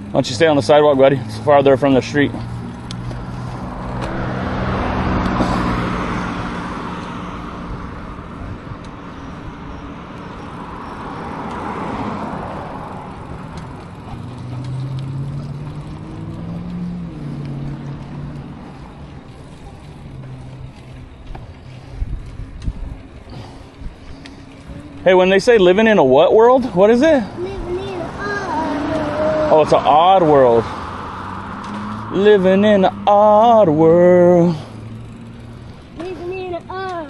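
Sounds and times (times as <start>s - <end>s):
cars passing: 0.0s - 37.0s
low engine hum: 0.0s - 37.0s.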